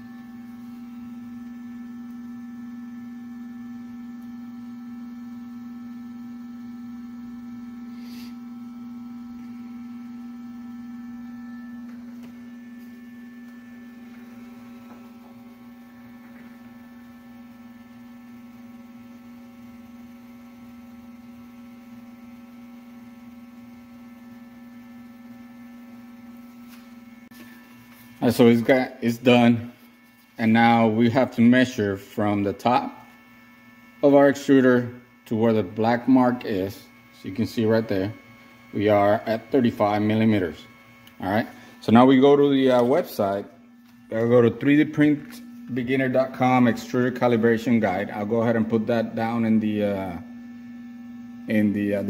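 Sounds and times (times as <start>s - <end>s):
stepper motor whining: 0.0s - 52.0s.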